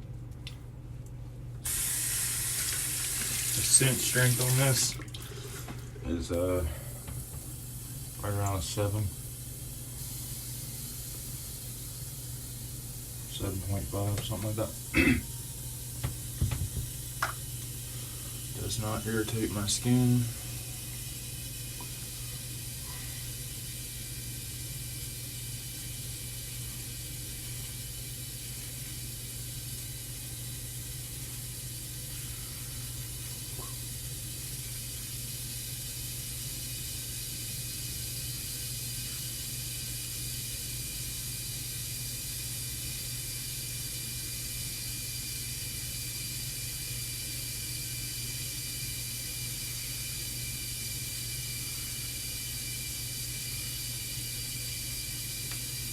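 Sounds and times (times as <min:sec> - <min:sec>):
steady hiss: 0:01.6 - 0:55.9.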